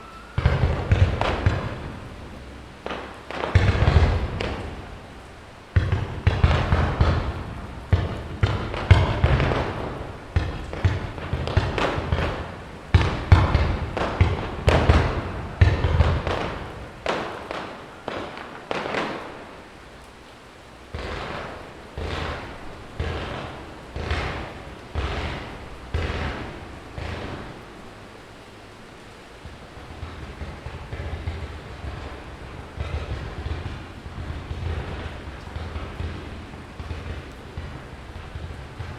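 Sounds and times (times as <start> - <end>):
firework shells bursting: 0.0 - 20.2, 20.8 - 28.2, 29.2 - 38.9.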